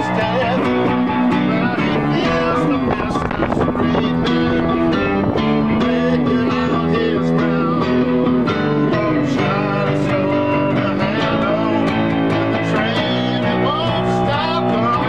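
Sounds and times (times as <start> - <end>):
keyboard: 0.0 - 15.0
live rock band playing: 0.0 - 15.0
person singing into a microphone: 0.0 - 15.0.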